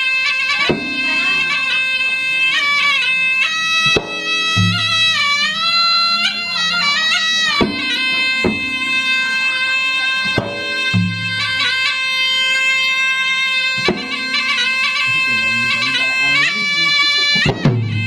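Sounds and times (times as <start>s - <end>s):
drum beats: 0.0s - 18.0s
nasal reed pipe melody: 0.0s - 18.0s.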